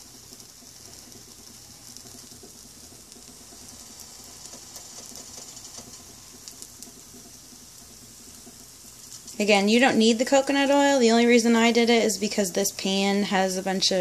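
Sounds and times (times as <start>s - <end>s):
batter sizzling in a skillet: 0.0s - 14.0s.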